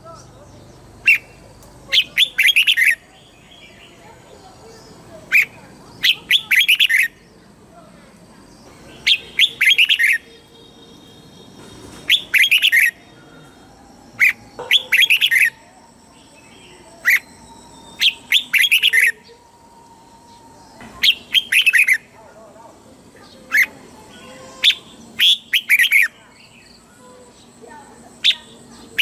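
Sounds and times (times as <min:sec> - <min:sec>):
bird chirping song: 0:00.0 - 0:29.0.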